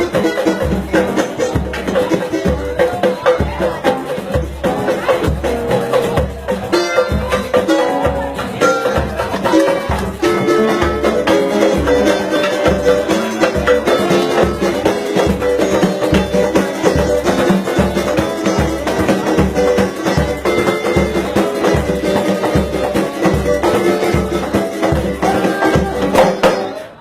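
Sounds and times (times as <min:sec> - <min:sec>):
samba music: 0:00.0 - 0:27.0.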